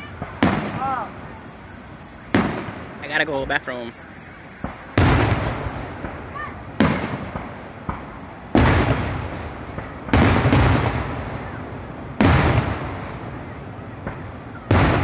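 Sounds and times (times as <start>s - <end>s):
firework shells booming: 0.0s - 15.0s.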